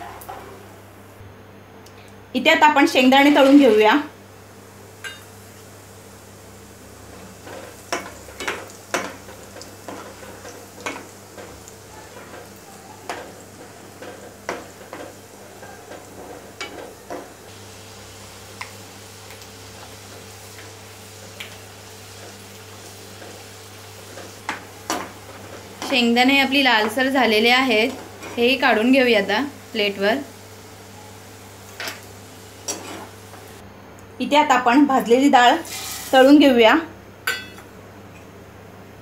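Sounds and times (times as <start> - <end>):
peanuts sizzling in hot oil: 2.9 - 33.6, 35.5 - 36.5.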